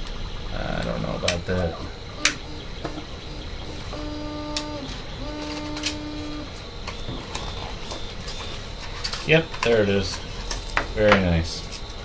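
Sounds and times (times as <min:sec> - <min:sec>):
steady tones: 0:00.0 - 0:12.0.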